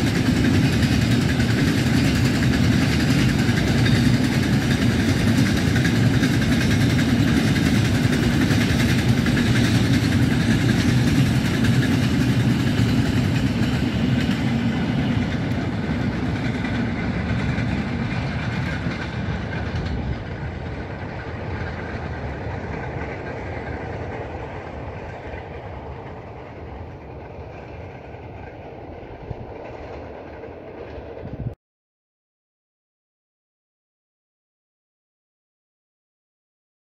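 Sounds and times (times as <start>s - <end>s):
freight train rolling past: 0.0s - 31.6s.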